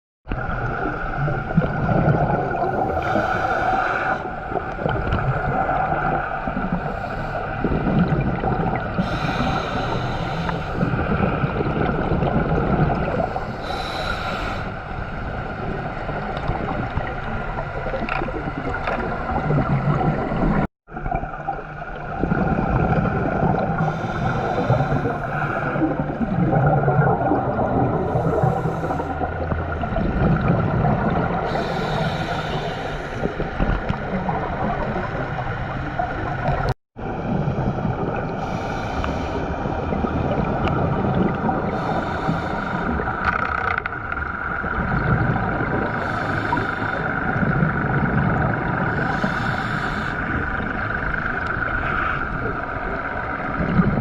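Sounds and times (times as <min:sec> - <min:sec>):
boat motor droning: 0:00.3 - 0:54.0
rushing water: 0:00.3 - 0:54.0.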